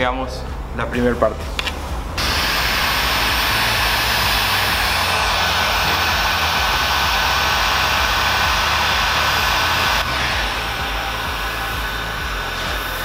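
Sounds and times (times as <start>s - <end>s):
heat gun fan blowing with whine: 0.0s - 13.0s.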